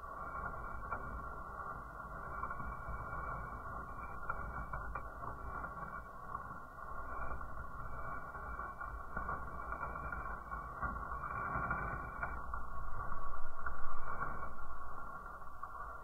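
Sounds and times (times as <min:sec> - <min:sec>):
fire crackling pops: 0:00.0 - 0:16.0
fire rushing hiss: 0:00.0 - 0:16.0.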